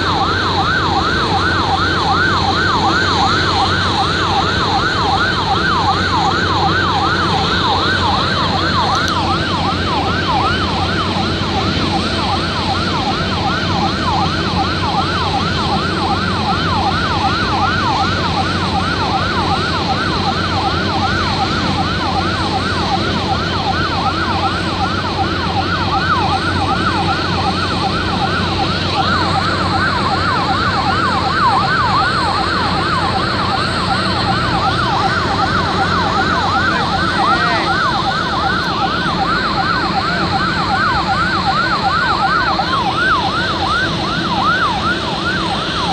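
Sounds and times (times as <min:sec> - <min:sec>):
emergency siren yelp: 0:00.0 - 0:45.9.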